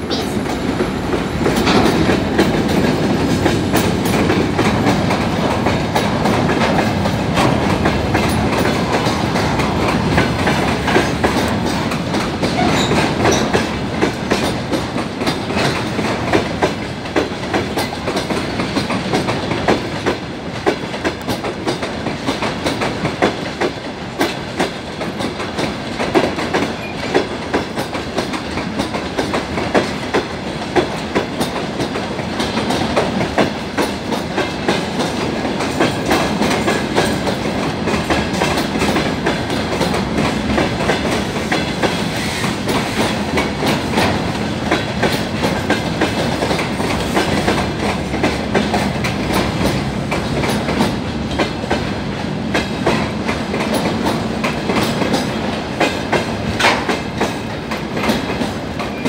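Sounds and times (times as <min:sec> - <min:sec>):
train wheels clattering over rail joints: 0:00.1 - 0:59.0.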